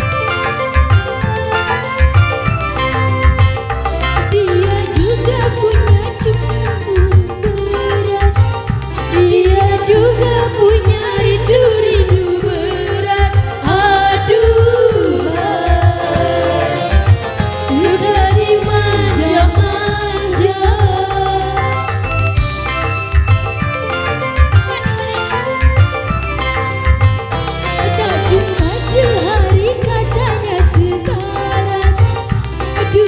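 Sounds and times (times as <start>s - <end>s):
live band playing: 0.0s - 33.0s
ornamented lead melody: 0.0s - 33.0s
pulsing drum and bass beat: 0.0s - 33.0s.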